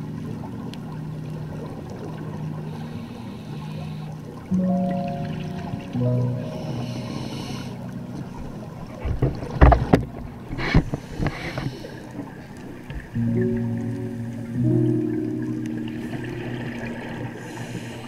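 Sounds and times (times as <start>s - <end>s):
soft ambient music: 0.0s - 18.0s.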